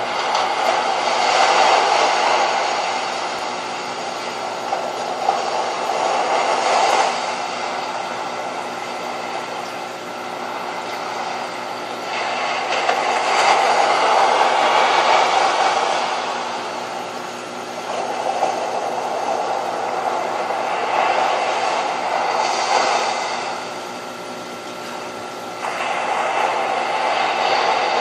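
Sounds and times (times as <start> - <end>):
faint steady hum: 0.0 - 28.0
water rushing through pumps: 0.0 - 28.0.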